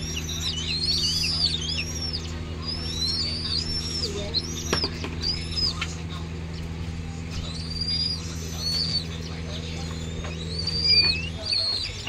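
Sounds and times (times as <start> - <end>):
young raptor whistled begging calls: 0.0 - 5.9, 7.3 - 12.0
electric fan hum: 0.0 - 12.0.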